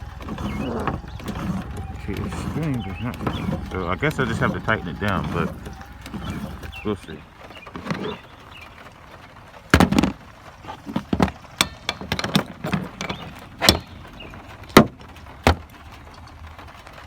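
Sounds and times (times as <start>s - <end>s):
hand tools clicking and knocking: 0.0s - 8.2s, 9.8s - 15.7s.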